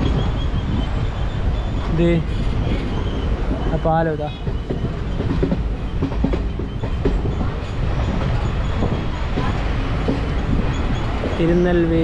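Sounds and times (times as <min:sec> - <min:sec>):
train rumbling: 0:00.0 - 0:12.0
wheels clattering on rails: 0:00.0 - 0:12.0.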